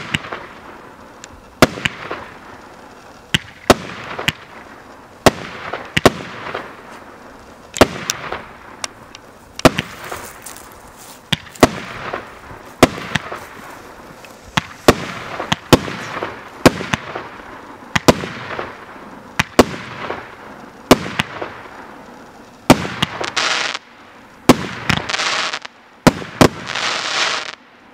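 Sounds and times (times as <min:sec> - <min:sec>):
firework shells bursting: 0:00.0 - 0:23.8
crackling fizz of fireworks: 0:00.0 - 0:27.9.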